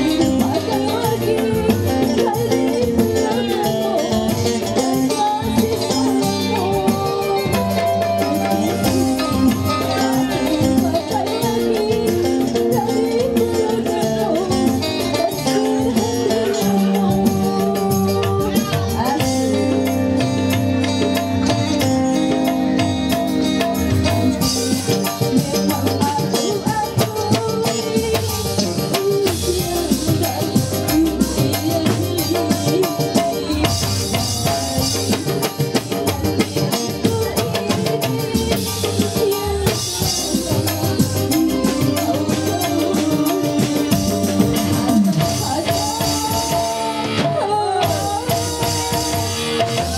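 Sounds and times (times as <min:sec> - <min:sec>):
electric guitar: 0:00.0 - 0:49.9
keyboard: 0:00.0 - 0:49.9
live band music: 0:00.0 - 0:49.9
steady drum beat: 0:00.0 - 0:49.9
woman singing: 0:00.0 - 0:49.9.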